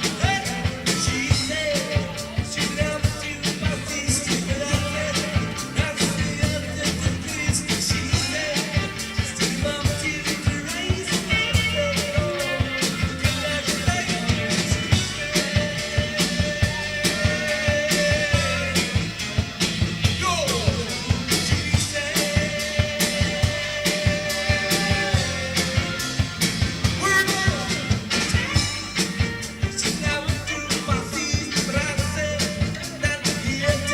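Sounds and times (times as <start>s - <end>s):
bass: 0.0s - 33.9s
drum kit beat: 0.0s - 33.9s
rock band playing: 0.0s - 33.9s
sustained lead guitar notes: 0.0s - 33.9s.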